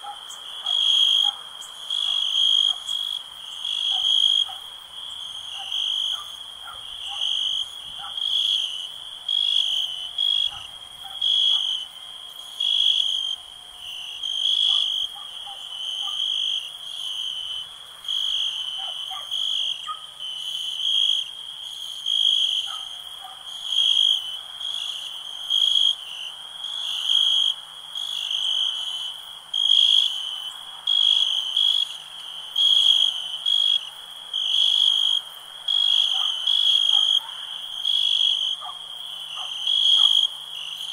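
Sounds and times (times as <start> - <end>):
crickets trilling: 0.0 - 40.9
frogs calling: 0.0 - 40.9.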